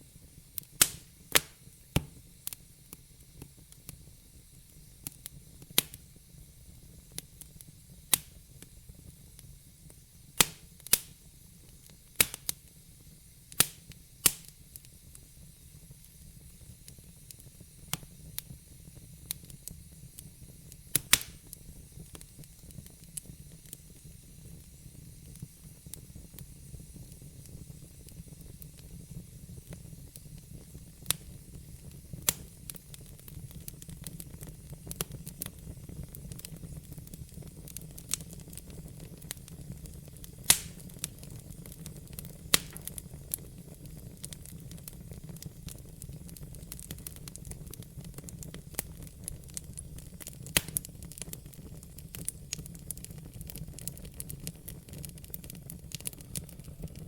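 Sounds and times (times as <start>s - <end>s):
fire crackling and popping: 0.0s - 57.0s
low rumble of fire: 0.0s - 57.0s.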